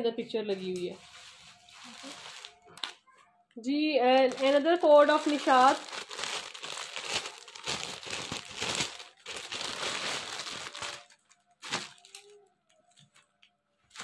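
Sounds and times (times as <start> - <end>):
plastic bag crinkling: 0.6 - 3.0, 4.0 - 14.0
sharp plastic crackle: 1.0 - 3.0, 4.0 - 14.0.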